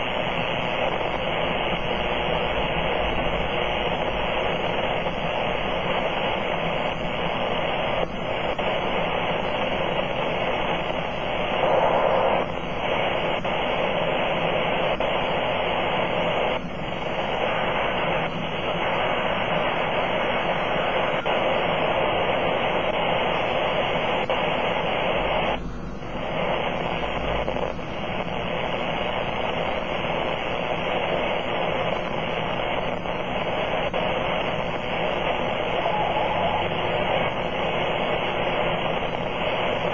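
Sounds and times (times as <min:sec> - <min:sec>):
radio interference buzzing hiss: 0:00.0 - 0:39.9.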